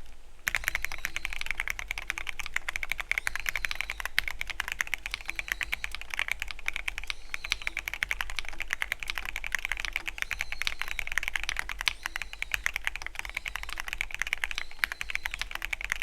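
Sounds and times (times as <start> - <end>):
fast mechanical keyboard typing: 0.5 - 16.0.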